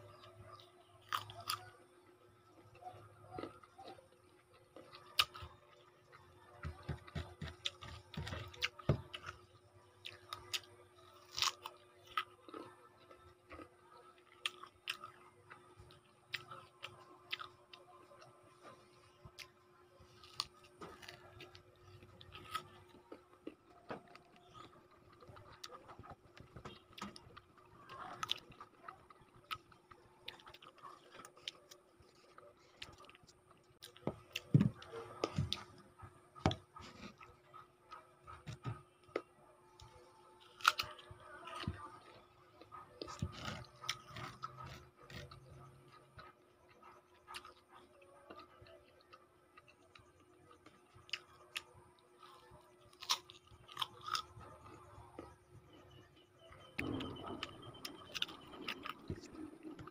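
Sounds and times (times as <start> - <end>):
crunchy fruit chewing: 0.0 - 59.9.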